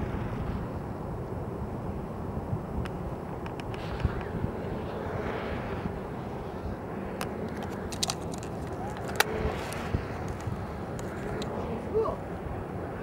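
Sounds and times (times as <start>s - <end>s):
surf breaking on a beach: 0.0s - 13.0s
wind rumble on microphone: 0.0s - 13.0s.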